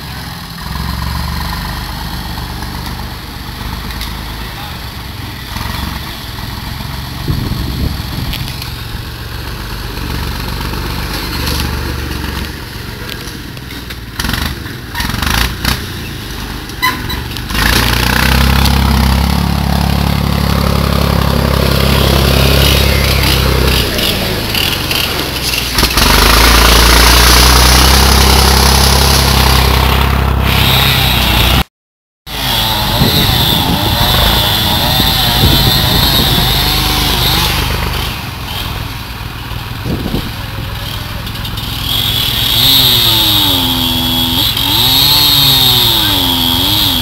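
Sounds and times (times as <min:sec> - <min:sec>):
loader engine running: 0:00.0 - 0:31.7, 0:32.3 - 0:47.0.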